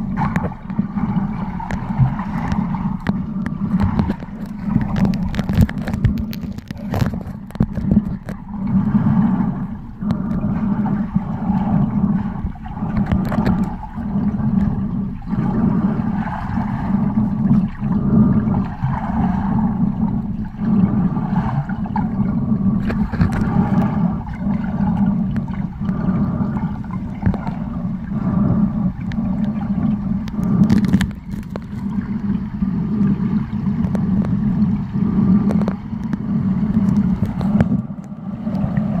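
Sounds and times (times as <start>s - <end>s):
muffled underwater rumble: 0.0s - 39.0s
water gurgling: 0.0s - 39.0s.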